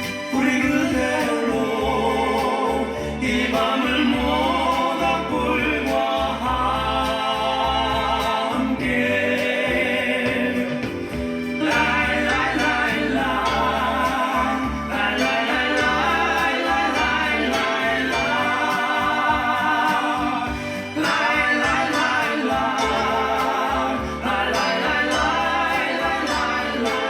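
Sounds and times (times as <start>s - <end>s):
instrumental accompaniment: 0.0s - 27.0s
voices singing in harmony: 0.0s - 27.0s.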